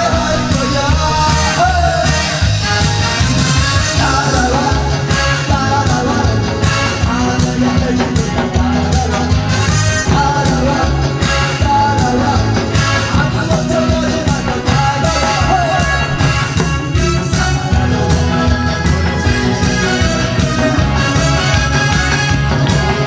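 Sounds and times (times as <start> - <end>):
person singing: 0.0 - 2.6, 3.8 - 23.0
backing music with steady beat: 0.0 - 23.0.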